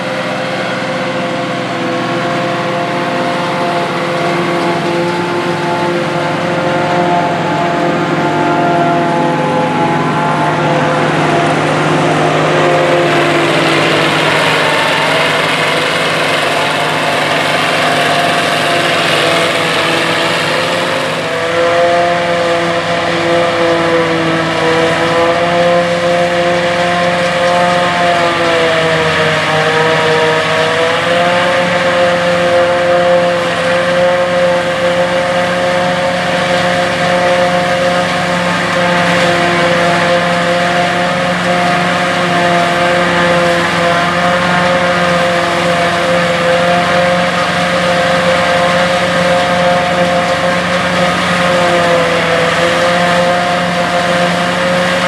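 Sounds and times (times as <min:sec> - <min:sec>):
forage harvester chopping corn: 0:00.0 - 0:55.0
tractor engine: 0:00.0 - 0:55.0.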